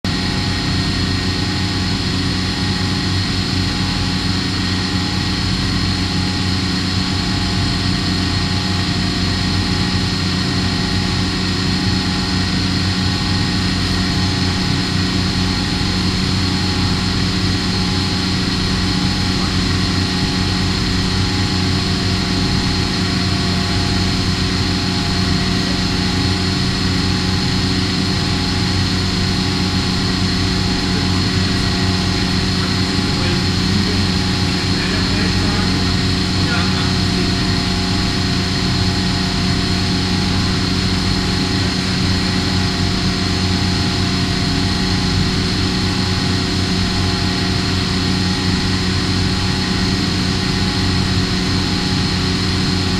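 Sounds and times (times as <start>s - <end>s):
machine hum with high whine: 0.0s - 52.9s.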